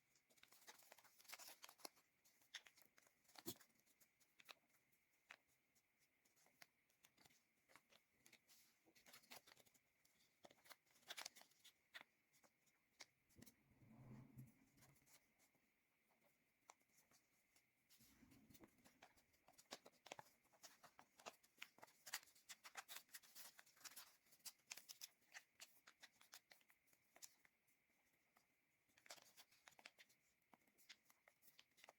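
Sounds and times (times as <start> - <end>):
paper crinkling while folded: 0.1 - 13.2, 16.1 - 31.9.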